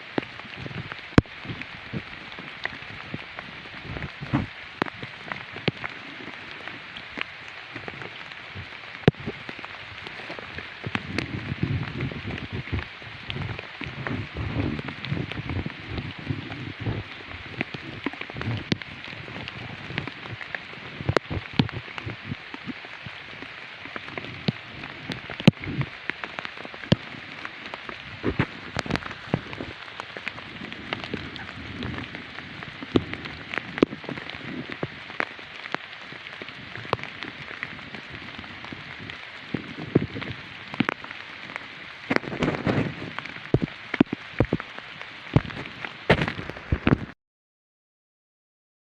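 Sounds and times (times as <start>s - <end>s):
rain pattering: 0.0s - 47.2s.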